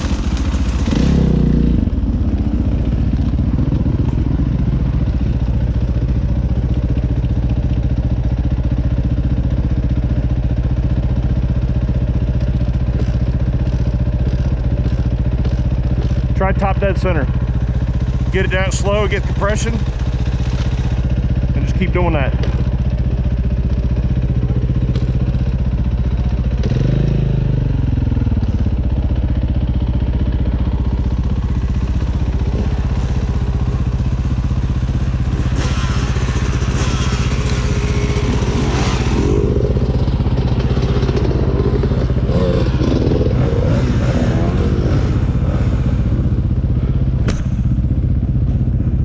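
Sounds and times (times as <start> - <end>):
dirt bike engine idling: 0.0 - 49.0
trail bikes revving and passing: 0.0 - 49.0.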